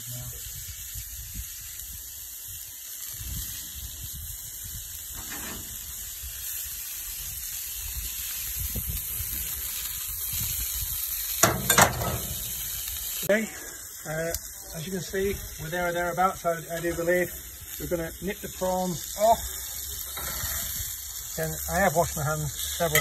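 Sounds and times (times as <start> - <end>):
prawns sizzling on a grill: 0.0 - 23.0.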